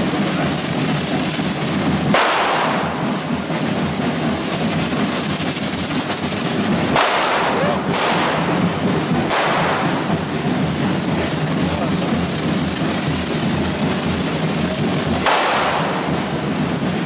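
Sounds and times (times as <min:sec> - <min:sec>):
firework burst: 0:00.0 - 0:17.0
fireworks fizzing and crackling: 0:00.0 - 0:17.0.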